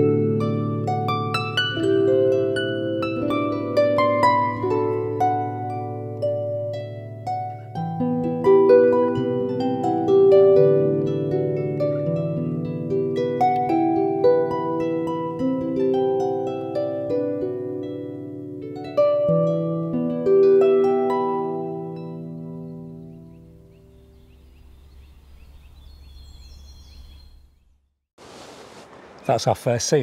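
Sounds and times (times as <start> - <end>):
plucked harp-like melody: 0.0 - 24.2.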